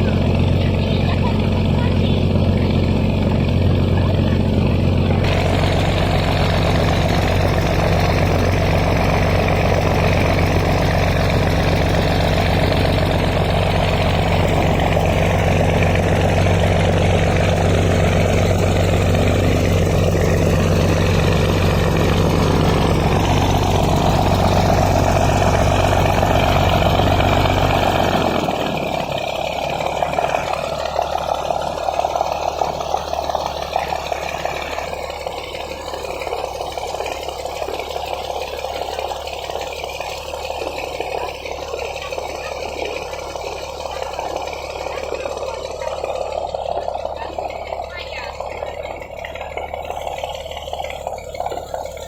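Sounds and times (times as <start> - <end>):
broad wash of noise: 0.0 - 47.8
boat engine humming: 0.0 - 52.0.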